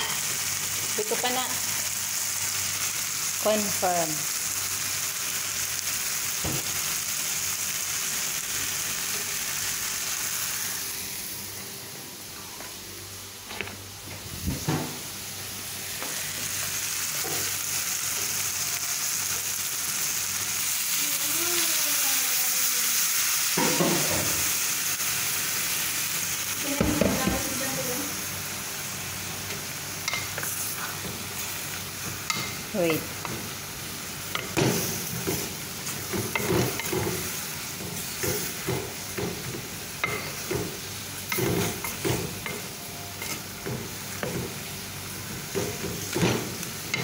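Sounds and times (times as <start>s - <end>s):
vegetables sizzling in a pot: 0.0s - 47.0s.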